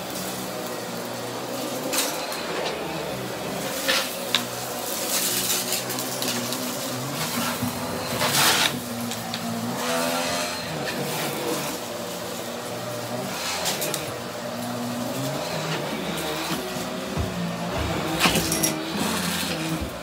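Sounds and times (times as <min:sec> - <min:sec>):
vacuum brush motor humming: 0:00.0 - 0:20.0.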